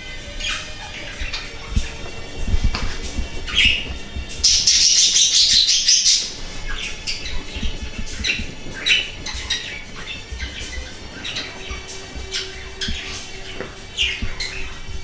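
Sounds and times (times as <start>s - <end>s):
birds chirping: 0.0s - 15.0s
faint music: 0.0s - 15.0s.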